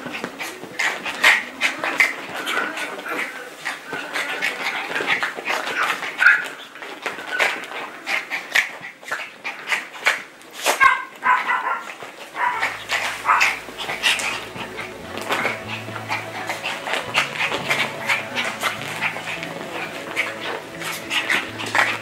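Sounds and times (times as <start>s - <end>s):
paws scuffling on fabric: 0.0s - 22.0s
puppies yipping and barking: 0.0s - 22.0s.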